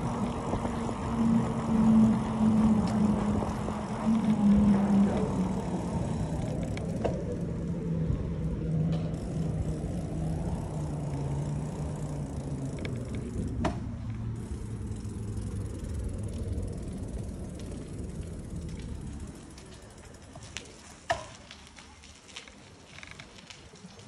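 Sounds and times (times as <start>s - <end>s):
low hum: 0.0s - 20.4s
wind noise: 0.0s - 20.6s
bicycle tyre rumble: 0.0s - 24.0s.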